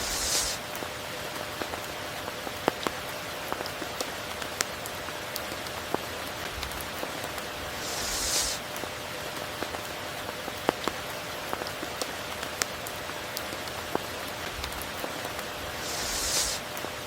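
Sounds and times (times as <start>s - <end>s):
rain on foliage and water: 0.0s - 17.0s.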